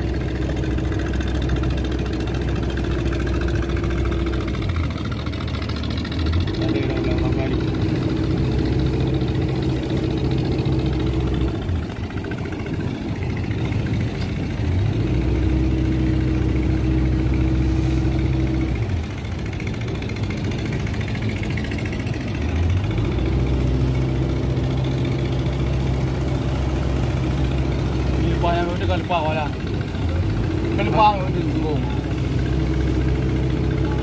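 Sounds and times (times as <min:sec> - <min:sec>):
boat engine running: 0:00.0 - 0:34.0.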